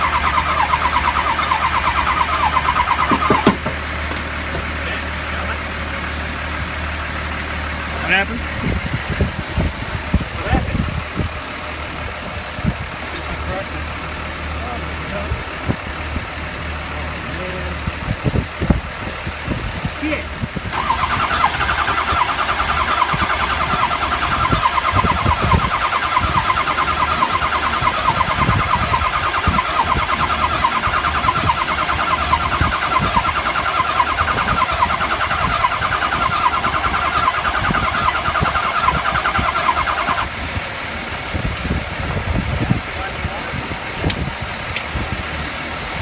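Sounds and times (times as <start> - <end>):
diesel engine cranking on starter: 0.0 - 46.0.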